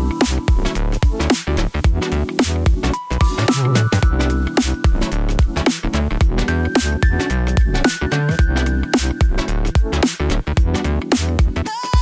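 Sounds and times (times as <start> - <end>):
electronic music with punchy drums: 0.0 - 12.0.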